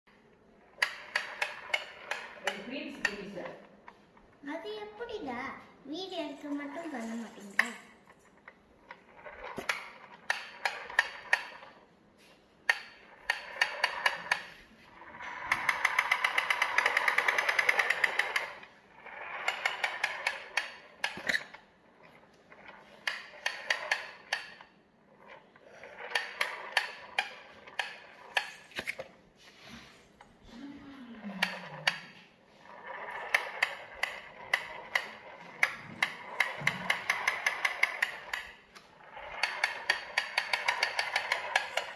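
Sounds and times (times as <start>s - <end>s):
toy truck wheels clicking on tiles: 0.3s - 5.4s, 6.2s - 41.9s.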